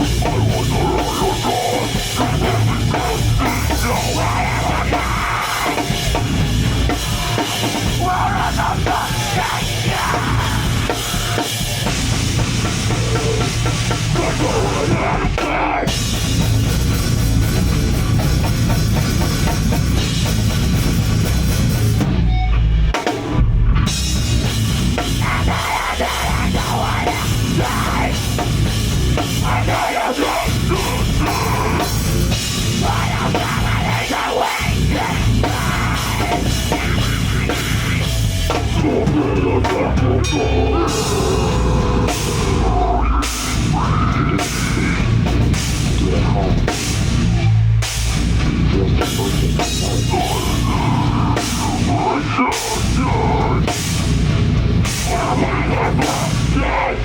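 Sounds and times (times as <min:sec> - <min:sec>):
distorted guitars and bass: 0:00.0 - 0:57.0
pounding drum kit with cymbals: 0:00.0 - 0:57.0.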